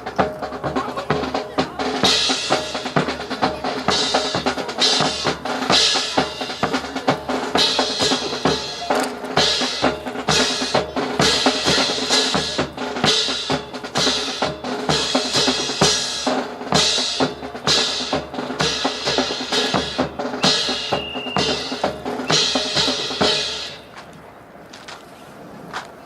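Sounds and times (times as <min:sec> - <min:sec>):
rhythmic drumming: 0:00.0 - 0:24.0.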